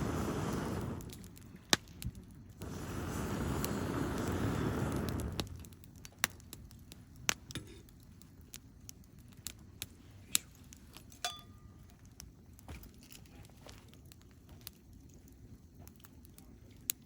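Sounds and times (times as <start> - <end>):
campfire crackling: 0.0 - 17.0
sharp fire pops: 0.0 - 17.0.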